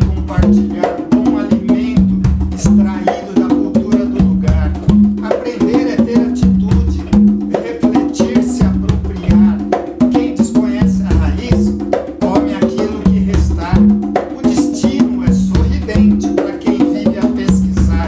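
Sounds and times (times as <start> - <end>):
conga drums played by hand: 0.0 - 18.0
man's voice: 0.0 - 18.0.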